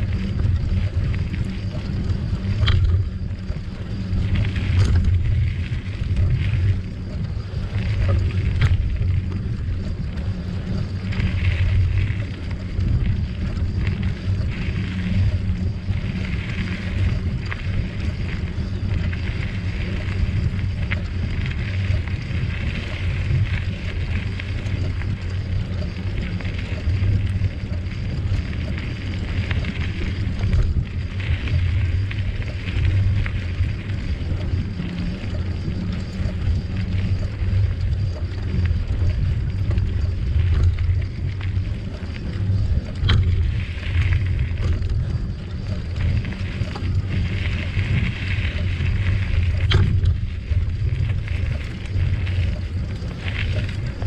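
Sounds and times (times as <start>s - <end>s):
bicycle clicks and rattles: 0.0s - 54.0s
tyre and trail noise: 0.0s - 54.0s
wind buffeting microphone: 0.0s - 54.0s.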